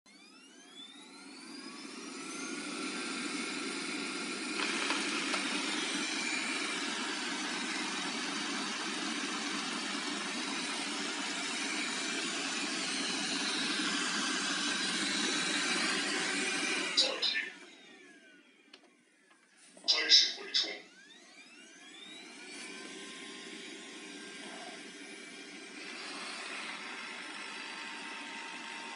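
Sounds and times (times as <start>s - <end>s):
robot vacuum fan whirring: 0.1s - 28.9s.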